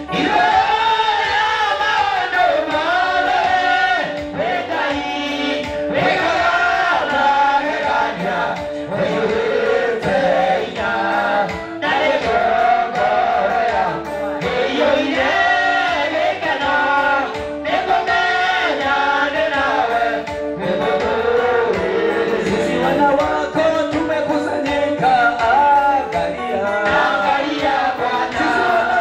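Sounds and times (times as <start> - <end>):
man singing into microphone: 0.0 - 29.0
music: 0.0 - 29.0
voices singing along: 0.0 - 29.0.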